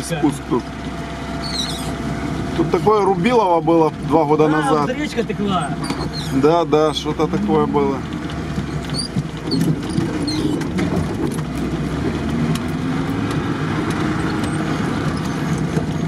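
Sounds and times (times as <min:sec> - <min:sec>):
car engine running: 0:00.0 - 0:16.0
rattles and clicks from car body: 0:00.2 - 0:16.0.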